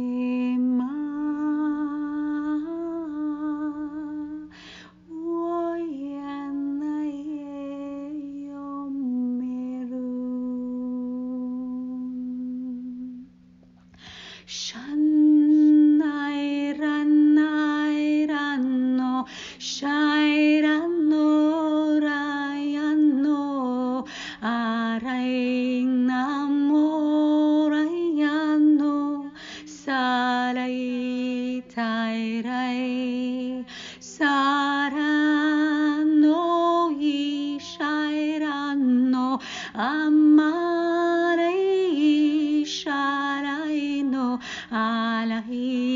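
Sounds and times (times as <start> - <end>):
woman singing wordless tones: 0.0 - 13.6, 14.4 - 45.9
faint low hum: 0.0 - 45.9.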